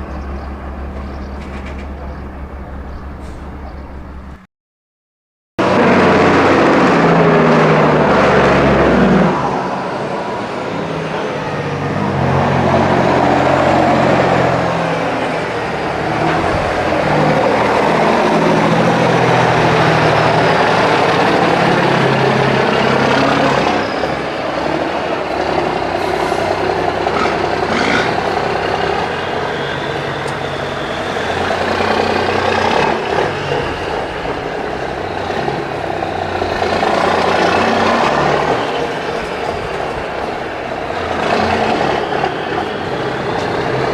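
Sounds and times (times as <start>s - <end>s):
heavy trucks driving past: 0.0s - 4.5s, 5.6s - 43.9s.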